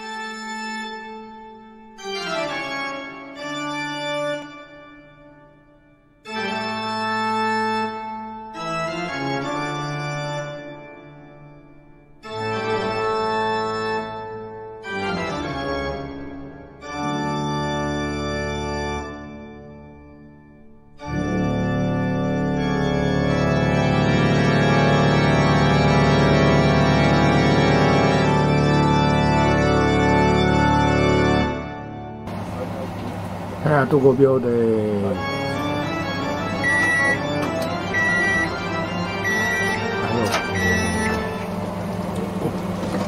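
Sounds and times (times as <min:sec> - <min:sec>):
organ-like keyboard chords: 0:00.0 - 0:43.0.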